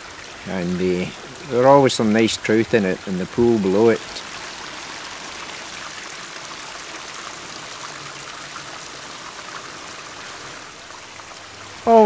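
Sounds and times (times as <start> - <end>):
water flowing over rocks: 0.0 - 12.0.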